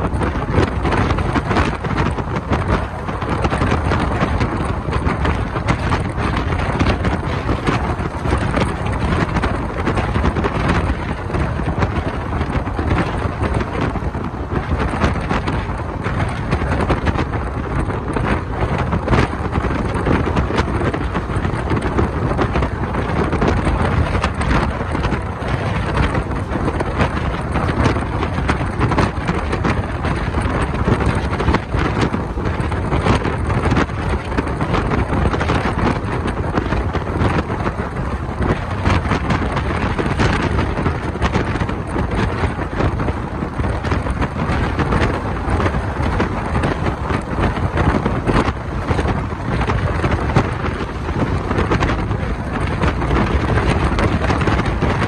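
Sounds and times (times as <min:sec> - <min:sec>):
train wheels on rails: 0:00.0 - 0:55.0
wind buffeting microphone: 0:00.0 - 0:55.0.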